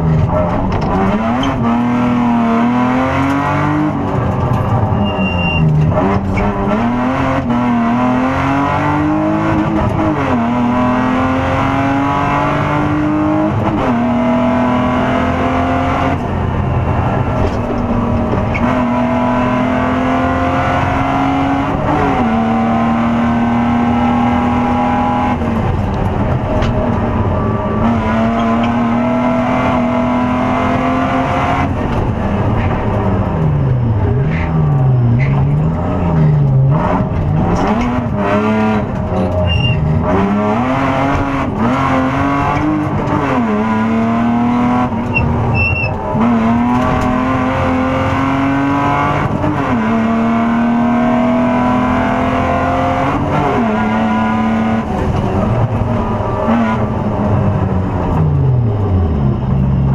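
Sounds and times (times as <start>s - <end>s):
car engine revving through gears: 0.0s - 59.9s.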